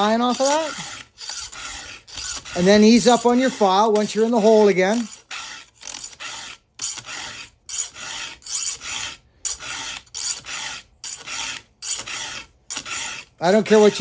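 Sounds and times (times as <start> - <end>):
file rasping on saw chain: 0.0 - 14.0.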